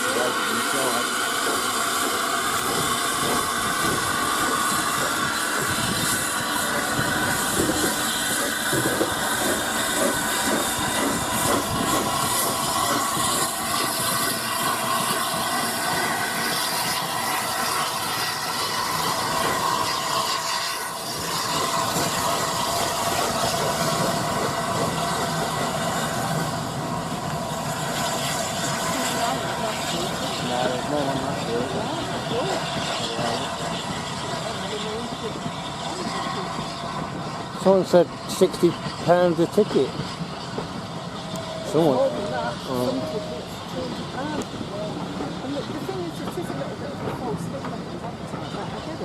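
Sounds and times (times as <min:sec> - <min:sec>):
steam hissing: 0:00.0 - 0:49.0
steam locomotive running: 0:00.0 - 0:49.0.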